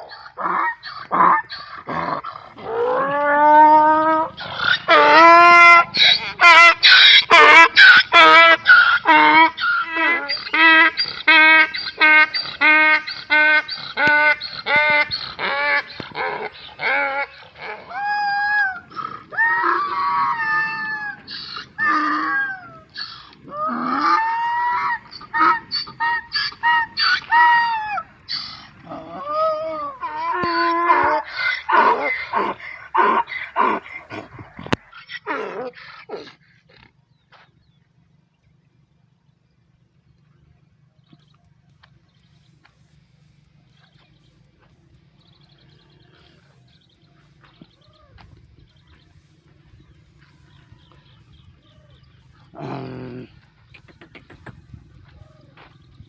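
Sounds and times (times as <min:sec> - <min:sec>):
donkeys braying: 0:00.0 - 0:56.0.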